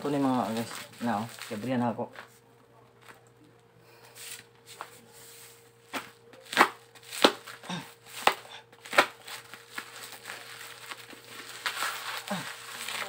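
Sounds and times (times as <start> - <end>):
plastic packaging crinkling: 0.0 - 3.3, 5.7 - 13.0.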